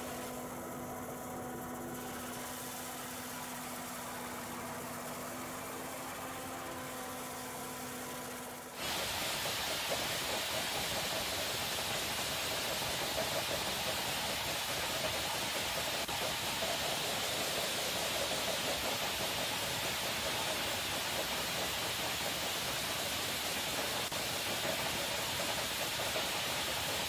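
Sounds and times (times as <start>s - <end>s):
high-pressure water jet blasting: 1.8s - 27.0s.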